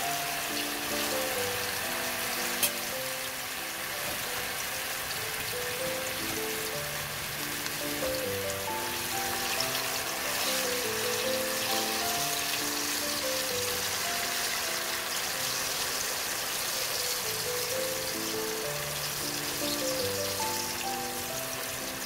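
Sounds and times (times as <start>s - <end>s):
background music with simple melody: 0.0s - 22.0s
deep-frying crackling sizzle: 0.0s - 22.0s.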